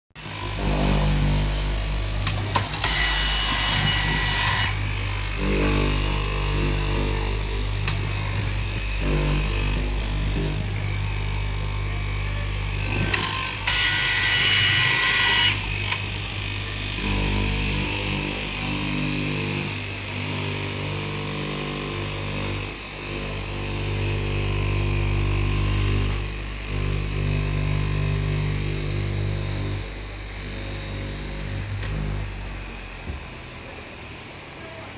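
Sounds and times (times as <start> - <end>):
cutting machine motor humming: 0.2 - 34.9.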